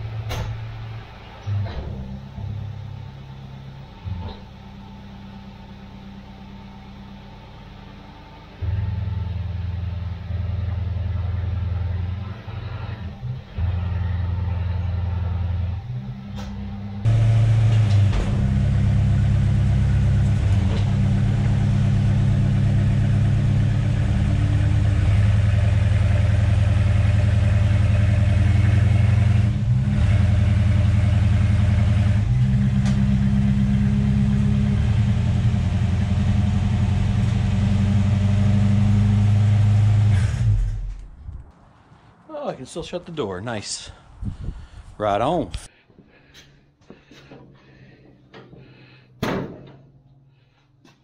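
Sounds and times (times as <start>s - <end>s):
car engine idling: 0.0s - 41.1s.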